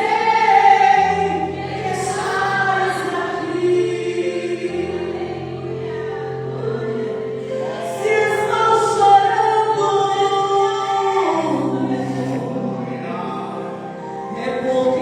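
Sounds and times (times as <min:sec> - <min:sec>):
voices singing worship song: 0:00.0 - 0:15.0.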